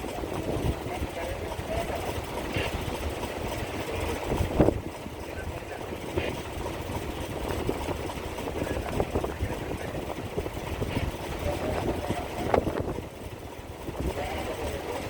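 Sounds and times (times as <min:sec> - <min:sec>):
ship engines rumbling: 0:00.0 - 0:15.0.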